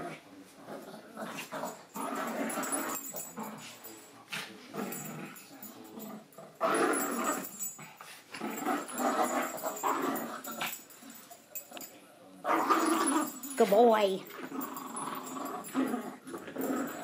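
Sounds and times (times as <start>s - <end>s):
small dogs growling: 0.0s - 13.6s, 14.2s - 17.0s.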